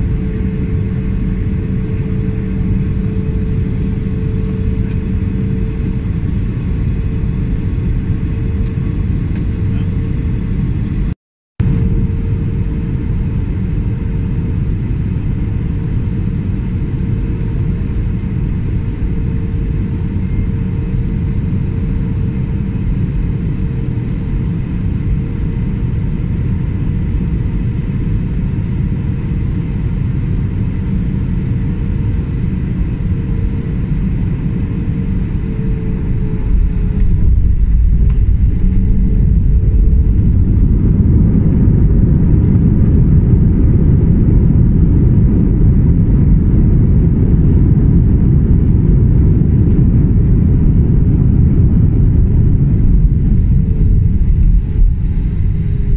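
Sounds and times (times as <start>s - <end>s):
jet engine drone in cabin: 0.0s - 55.9s
plane rumbling on runway: 0.0s - 55.9s.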